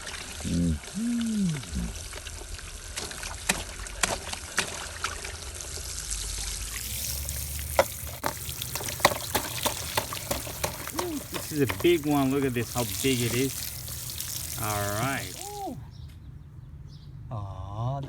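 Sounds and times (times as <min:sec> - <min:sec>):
bath water trickling and splashing: 0:00.0 - 0:15.8
sharp water drips: 0:00.0 - 0:15.8.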